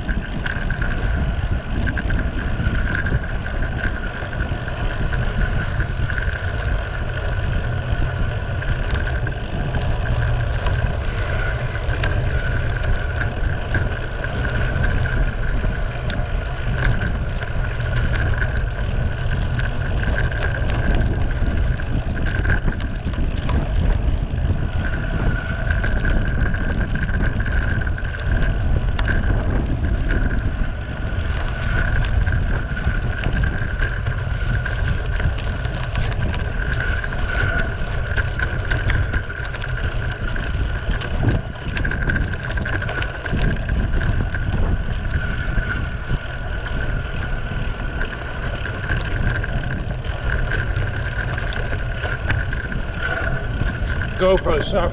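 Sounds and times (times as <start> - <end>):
tyres crunching over gravel: 0.0 - 54.9
wind buffeting microphone: 0.0 - 54.9.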